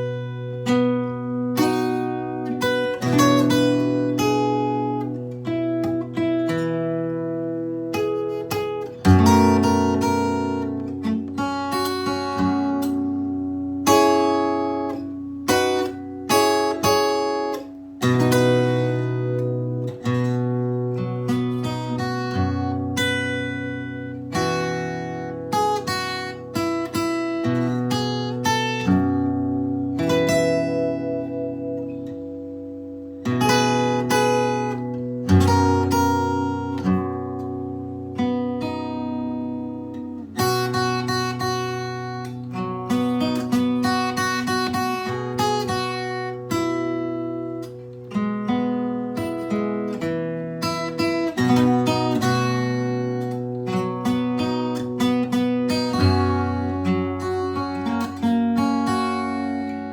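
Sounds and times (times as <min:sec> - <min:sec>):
solo guitar slow melody: 0:00.0 - 0:59.9.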